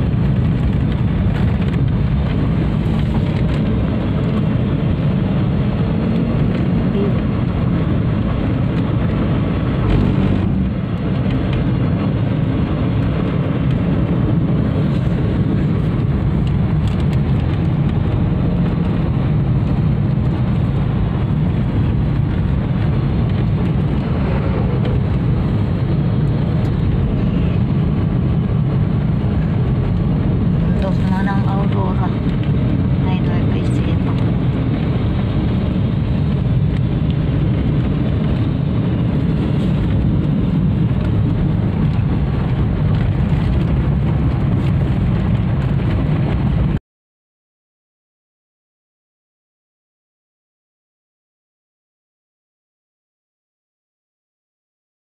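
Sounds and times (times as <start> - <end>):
road and engine rumble in car: 0.0 - 46.8.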